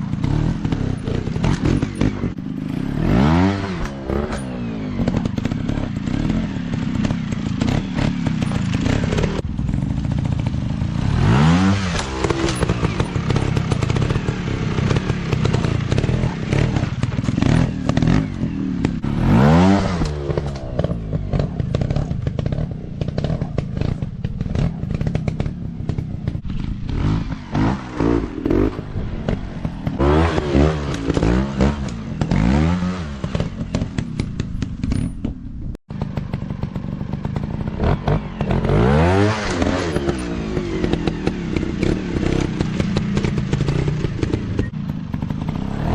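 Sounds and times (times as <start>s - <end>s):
steady clatter: 0.0s - 3.0s, 3.6s - 45.9s
dirt bike engines revving: 0.0s - 45.9s.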